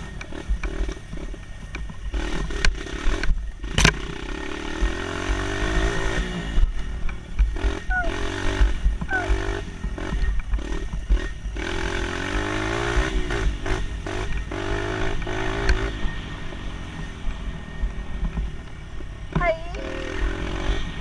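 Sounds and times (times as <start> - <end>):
dirt bike engine revving: 2.1 - 18.6, 19.3 - 21.0.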